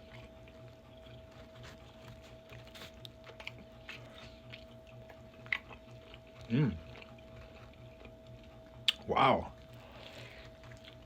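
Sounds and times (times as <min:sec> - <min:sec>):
close-up chewing with mouth clicks: 0:00.0 - 0:11.0
faint steady hum: 0:00.0 - 0:11.0.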